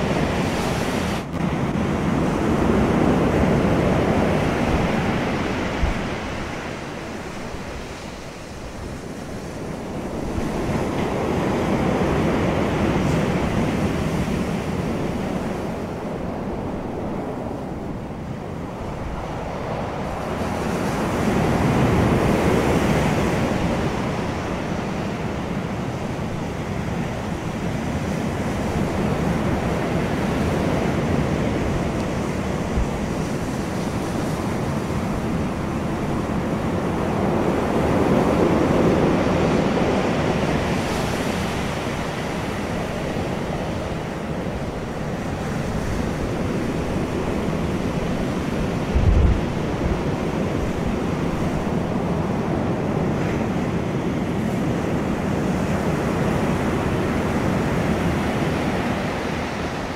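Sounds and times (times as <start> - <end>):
surf washing over pebble beach: 0.0 - 59.9.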